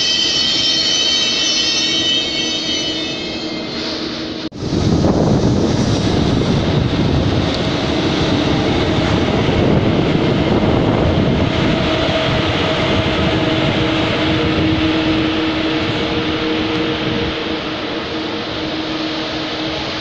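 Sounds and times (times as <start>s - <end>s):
train roaring past: 0.0s - 20.0s.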